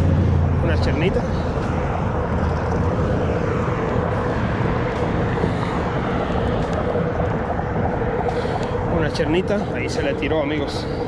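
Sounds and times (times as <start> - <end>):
low droning hum: 0.0 - 11.0
wind rumble on microphone: 0.0 - 11.0.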